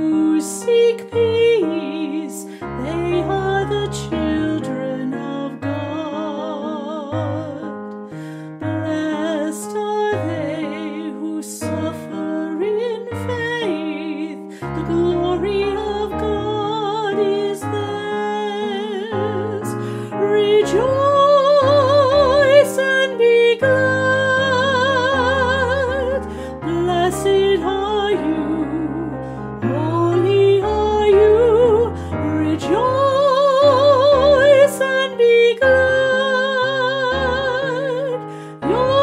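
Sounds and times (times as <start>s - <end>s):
person singing a hymn: 0.0s - 7.7s, 8.6s - 39.0s
piano accompaniment: 0.0s - 39.0s.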